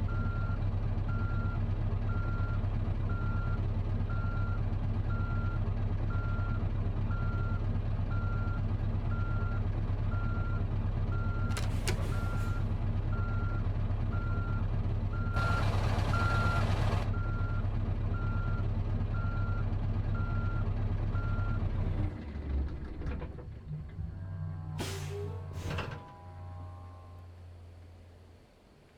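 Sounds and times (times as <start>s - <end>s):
diesel engine running: 0.0s - 28.9s
truck reversing alarm beeping: 0.1s - 21.7s, 24.2s - 27.5s.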